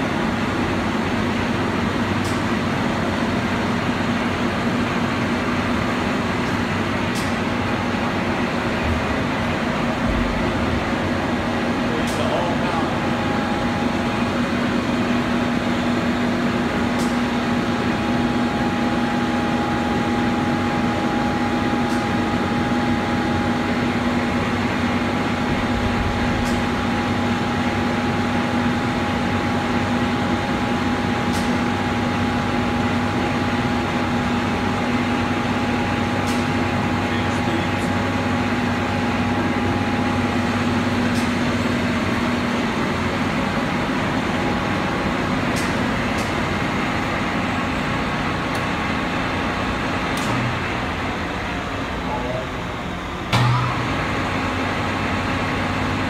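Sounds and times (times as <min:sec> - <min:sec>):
lathe mechanical hum: 0:00.0 - 0:56.0
steady machine whine: 0:00.0 - 0:56.0.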